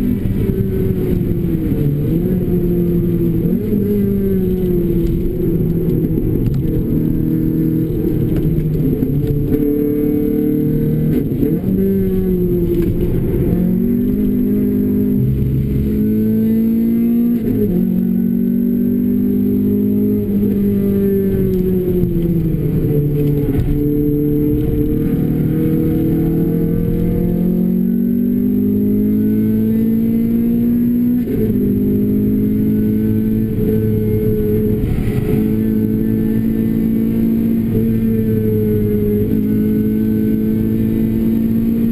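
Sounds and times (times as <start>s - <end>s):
car engine running hard: 0.0s - 41.9s.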